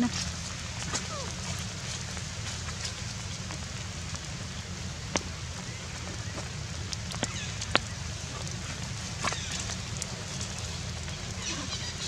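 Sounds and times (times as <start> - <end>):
rain on wet ground: 0.0 - 12.0.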